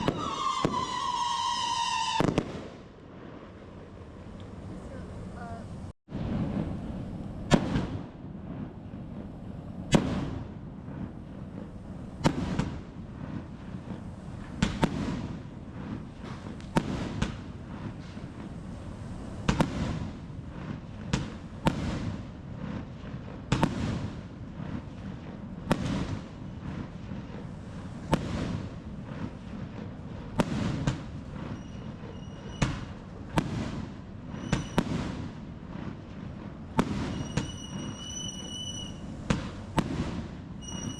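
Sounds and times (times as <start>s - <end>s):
fireworks banging: 0.0s - 40.9s.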